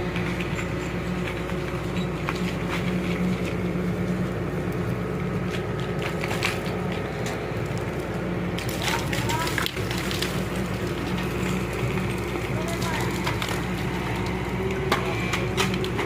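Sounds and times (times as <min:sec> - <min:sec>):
excavator diesel engine running: 0:00.0 - 0:16.0
earth and rock cracking: 0:00.1 - 0:16.0.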